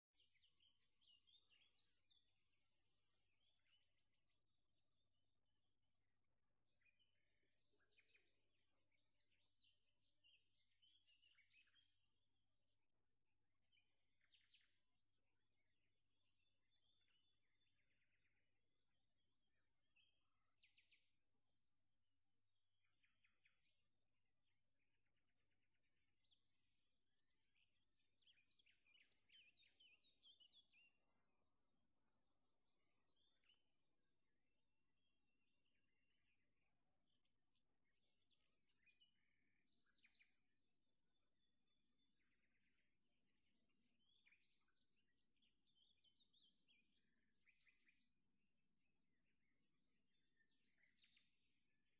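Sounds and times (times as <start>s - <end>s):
faint bird chirping: 0.0s - 51.9s.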